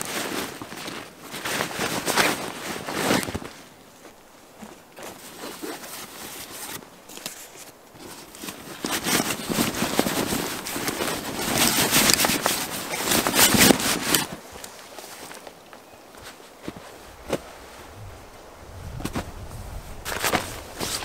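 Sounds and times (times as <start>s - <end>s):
backpack fabric rustling: 0.0s - 21.0s.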